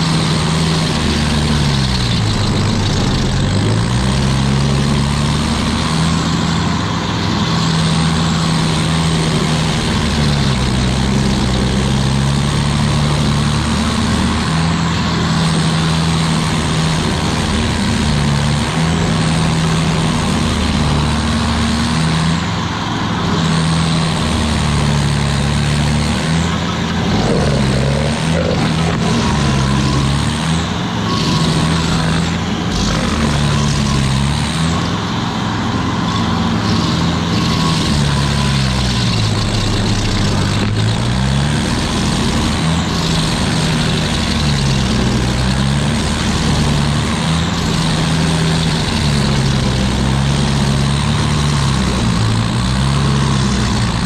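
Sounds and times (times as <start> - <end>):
stump grinder engine running hard: 0.0 - 54.0.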